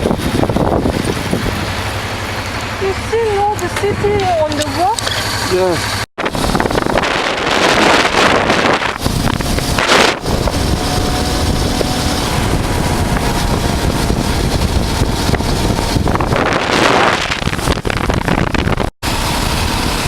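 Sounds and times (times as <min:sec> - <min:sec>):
wind buffeting microphone: 0:00.0 - 0:05.1, 0:06.2 - 0:20.0
motorcycle engine running: 0:00.0 - 0:20.0.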